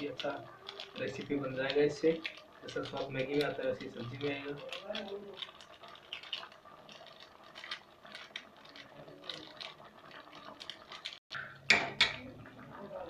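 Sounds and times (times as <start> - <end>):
foil sachet crinkling: 0.0 - 11.2.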